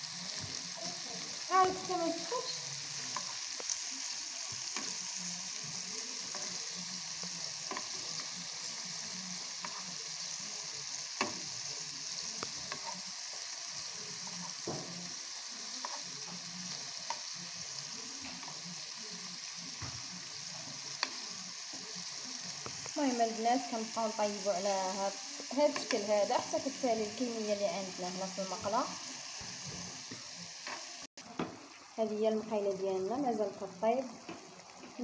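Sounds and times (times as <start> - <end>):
patties sizzling in oil: 0.0 - 35.0.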